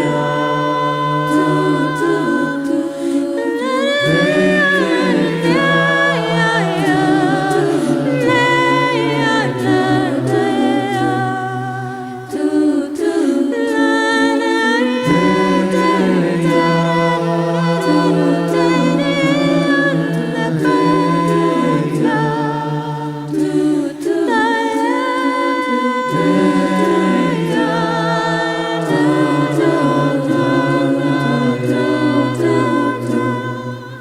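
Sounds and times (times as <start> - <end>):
a cappella group singing: 0.0 - 34.0.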